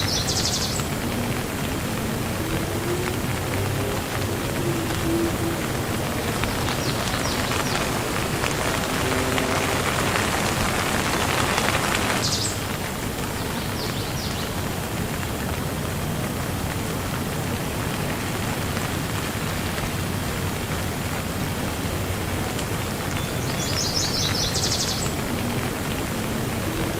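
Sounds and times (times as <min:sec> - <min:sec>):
rain pattering on surfaces: 0:00.0 - 0:26.9.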